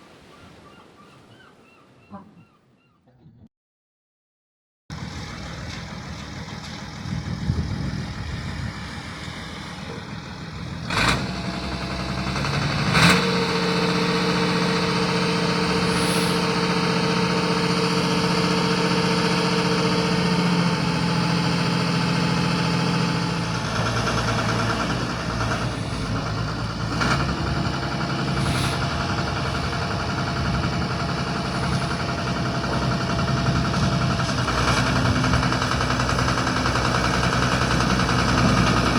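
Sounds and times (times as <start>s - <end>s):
engine running steadily: 4.9s - 38.9s.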